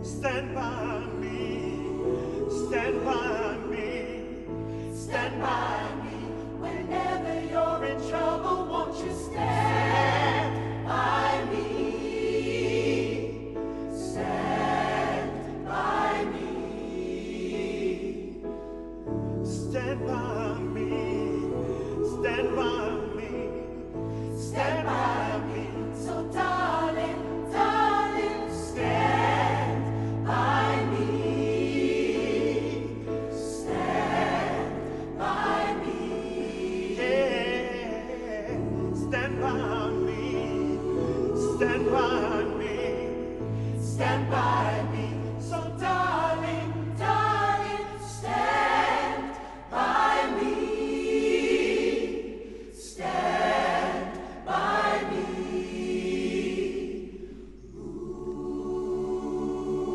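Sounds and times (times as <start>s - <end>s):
gospel choir singing: 0.0s - 59.9s.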